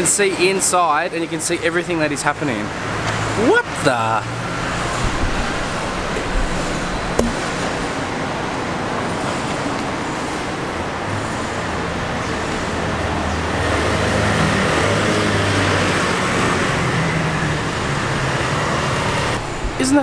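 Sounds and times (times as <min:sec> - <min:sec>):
city street traffic: 0:00.0 - 0:20.0
vehicle engine hum: 0:02.5 - 0:19.8.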